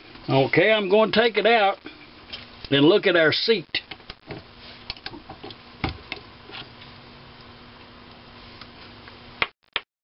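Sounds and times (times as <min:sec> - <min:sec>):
faint steady hum: 0:00.0 - 0:09.5.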